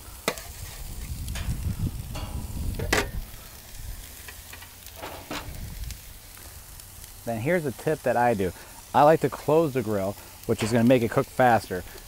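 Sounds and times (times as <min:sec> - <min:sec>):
burger patties sizzling on grill: 0:00.0 - 0:12.0.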